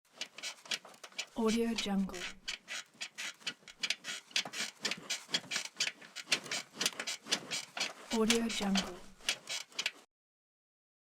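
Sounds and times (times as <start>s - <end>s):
bed frame creaking and squeaking: 0.1s - 10.0s.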